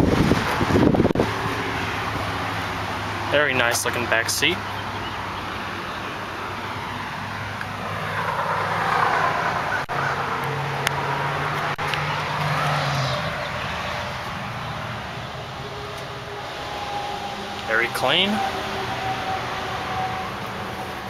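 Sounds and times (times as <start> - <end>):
highway traffic hum: 0.0 - 21.0
vehicle passing by: 0.0 - 21.0.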